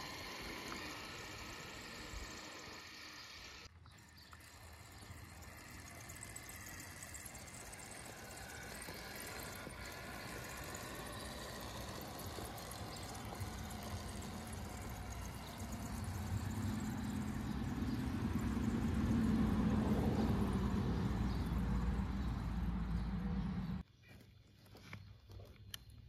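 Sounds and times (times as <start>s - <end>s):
toy truck driving over gravel: 0.0s - 23.8s.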